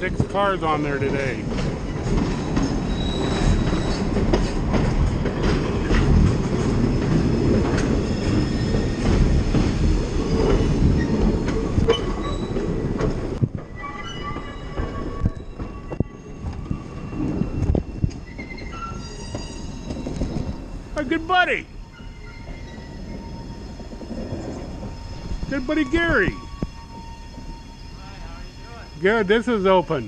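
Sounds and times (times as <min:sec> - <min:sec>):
train wheels rumbling on rail: 0:00.0 - 0:30.0
wheel squeal: 0:01.8 - 0:04.6, 0:06.0 - 0:20.8, 0:21.8 - 0:30.0.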